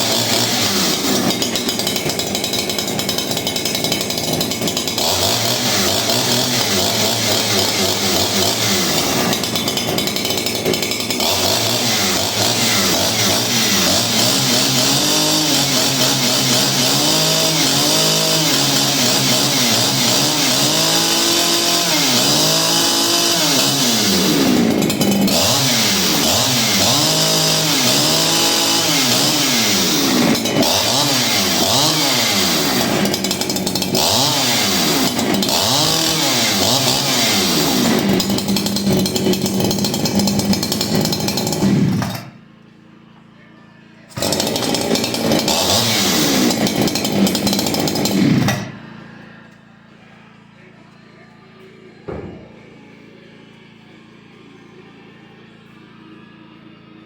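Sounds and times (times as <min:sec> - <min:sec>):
chainsaw revving: 0:00.0 - 0:42.4, 0:44.1 - 0:49.3.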